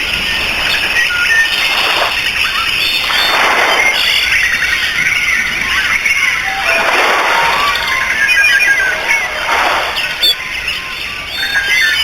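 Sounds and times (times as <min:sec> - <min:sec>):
rushing noise: 0:00.0 - 0:12.0
small birds chirping: 0:00.0 - 0:12.0.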